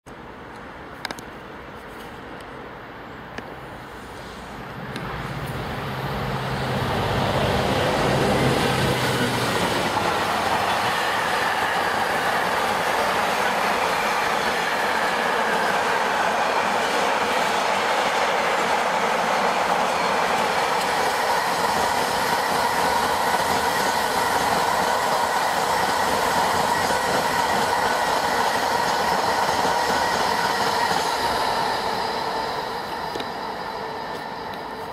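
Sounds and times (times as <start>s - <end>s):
diesel locomotive engine drone: 0.1s - 34.9s
train wagons rolling and clattering: 6.9s - 34.9s.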